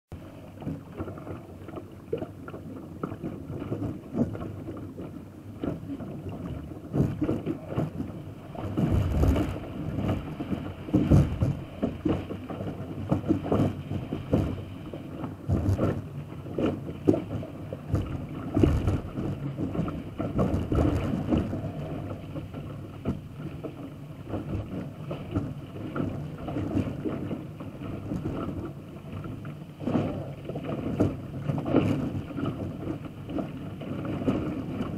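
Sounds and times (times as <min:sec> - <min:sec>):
water rushing against boat hull: 0:00.1 - 0:34.9
bow splashing into waves: 0:05.6 - 0:34.9.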